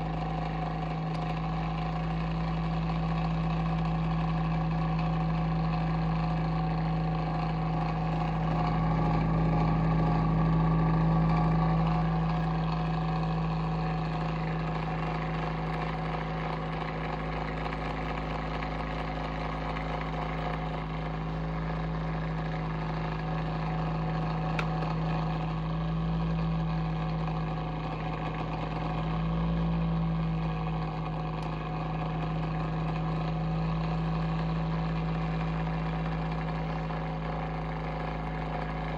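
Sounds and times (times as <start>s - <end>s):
heater humming with high tones: 0.0s - 38.9s.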